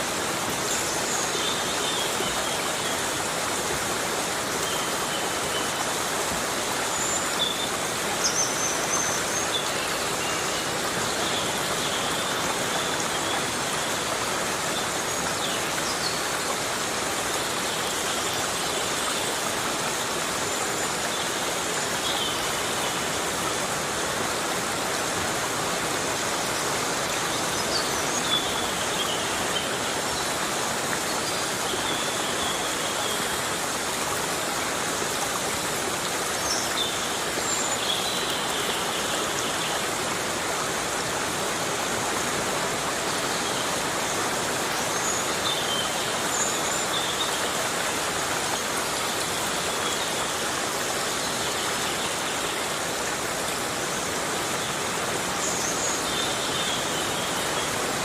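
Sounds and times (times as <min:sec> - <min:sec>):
heavy rain on vegetation: 0:00.0 - 0:58.0.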